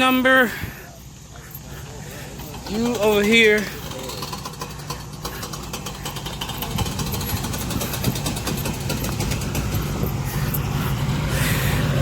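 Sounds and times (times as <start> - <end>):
car engine at low speed: 0.0 - 12.0.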